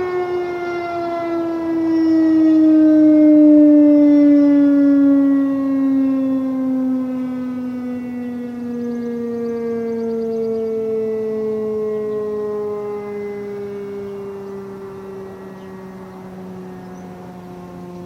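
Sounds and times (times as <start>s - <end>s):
rotating siren winding down: 0.0s - 18.0s.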